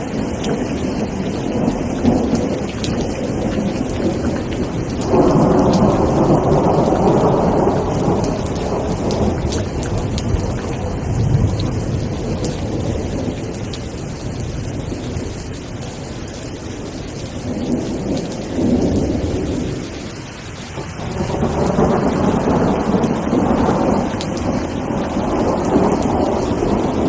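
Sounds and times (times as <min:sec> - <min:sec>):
rolling thunder: 0:00.0 - 0:27.0
steady rain: 0:00.0 - 0:27.0.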